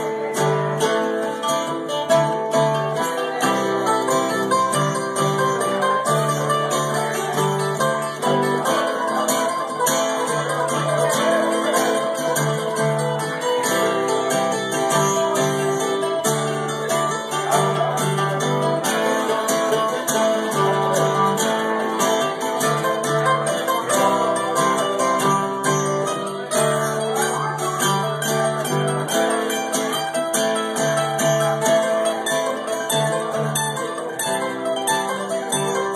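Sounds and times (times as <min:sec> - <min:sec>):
acoustic guitar strumming chords: 0:00.0 - 0:35.9
mandolin picking a lead: 0:00.0 - 0:35.9.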